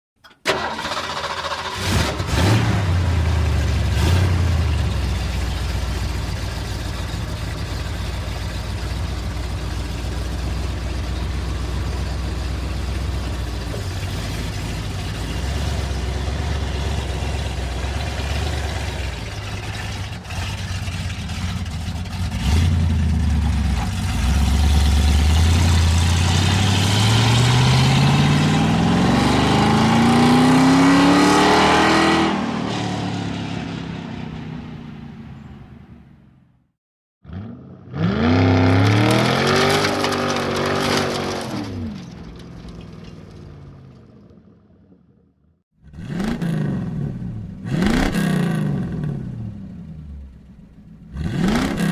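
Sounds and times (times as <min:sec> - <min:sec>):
car engine starting and revving: 0:00.4 - 0:35.5, 0:37.3 - 0:42.6, 0:45.8 - 0:51.9.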